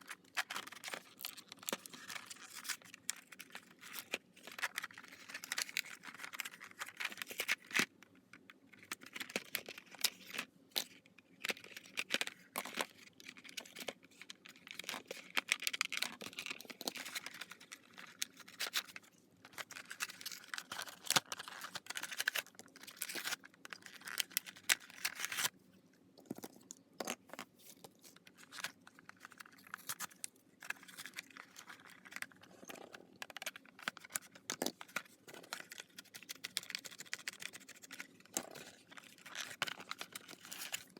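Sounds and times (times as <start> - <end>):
packaging crinkling and tearing: 0.0 - 7.9, 8.9 - 25.6, 27.6 - 40.9.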